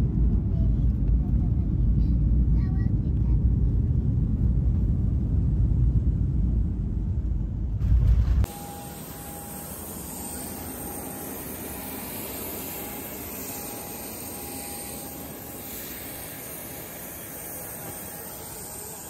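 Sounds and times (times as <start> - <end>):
jet aircraft drone: 0.0 - 19.0.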